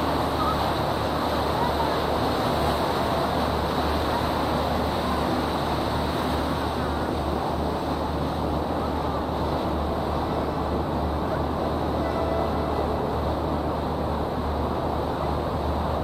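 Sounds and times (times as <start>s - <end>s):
boat engine drone: 0.0s - 16.0s
wind and water rushing: 0.0s - 16.0s.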